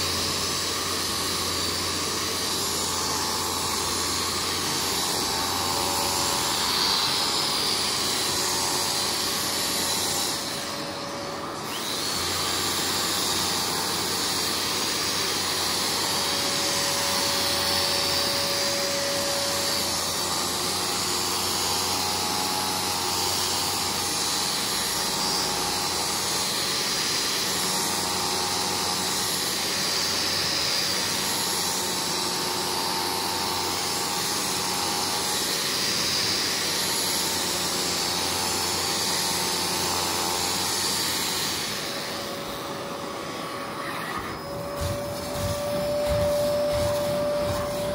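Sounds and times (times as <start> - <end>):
carpet vacuum running: 0.0 - 47.9.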